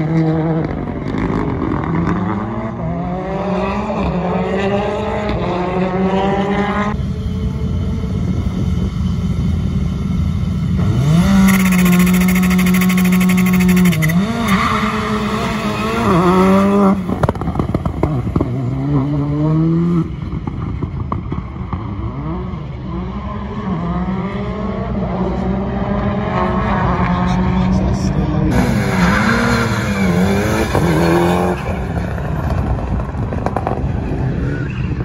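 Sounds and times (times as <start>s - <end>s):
rally car engine revving and accelerating: 0.0s - 8.3s, 10.7s - 35.0s.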